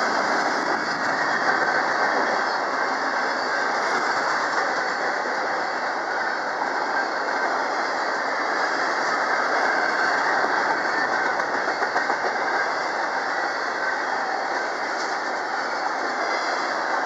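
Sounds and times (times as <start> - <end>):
steel wheels running on rail: 0.0 - 17.0.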